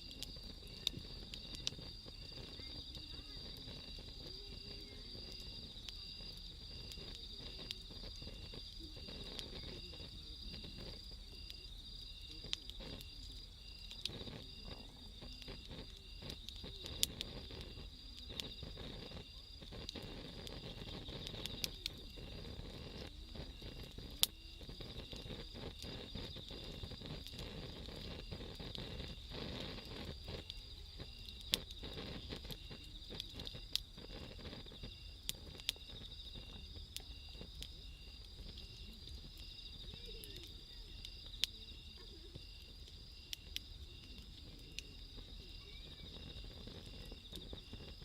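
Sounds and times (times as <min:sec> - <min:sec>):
fire popping: 0:00.0 - 0:48.0
night insects chirping: 0:00.0 - 0:48.0
wood fire crackling: 0:00.0 - 0:48.0.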